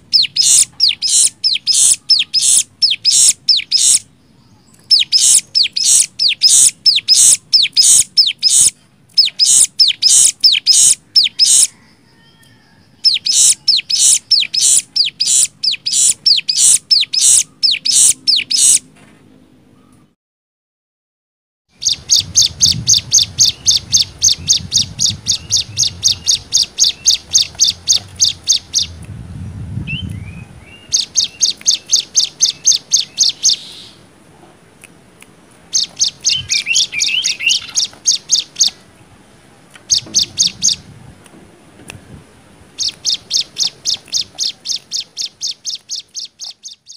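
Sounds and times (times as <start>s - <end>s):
songbird singing rapid notes: 0.0s - 11.9s, 12.9s - 18.8s, 21.7s - 34.1s, 35.6s - 38.9s, 39.8s - 40.9s, 42.8s - 46.9s.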